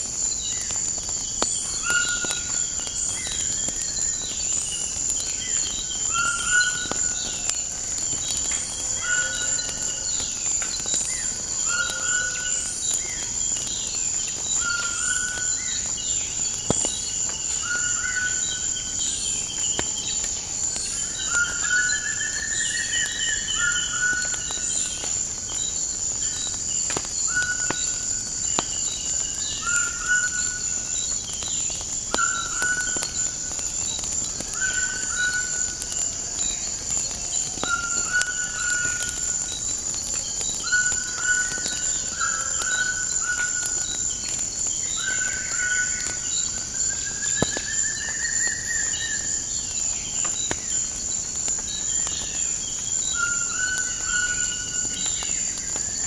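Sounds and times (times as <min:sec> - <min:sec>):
insect drone: 0:00.0 - 0:56.0
wood fire crackles: 0:00.0 - 0:56.0.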